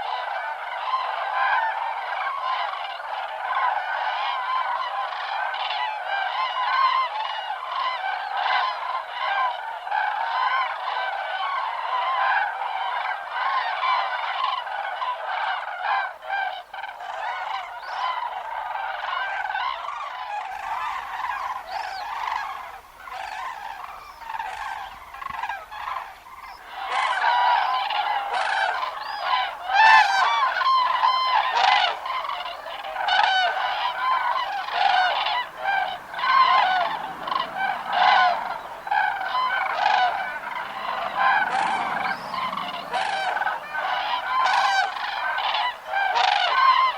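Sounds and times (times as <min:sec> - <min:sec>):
cranes trumpeting calls: 0:00.0 - 0:46.9.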